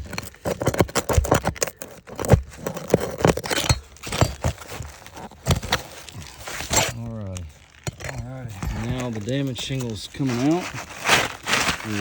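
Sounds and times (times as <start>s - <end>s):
roof shingle scraping and crackling: 0.0s - 12.0s.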